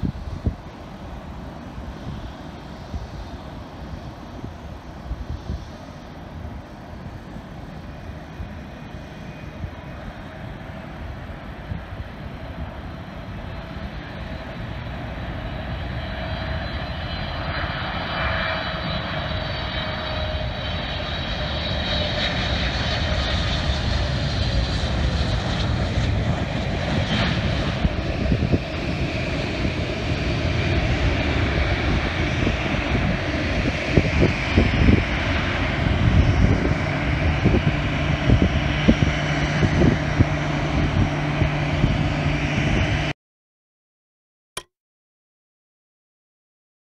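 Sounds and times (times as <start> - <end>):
jet engines roaring: 0.0 - 43.2.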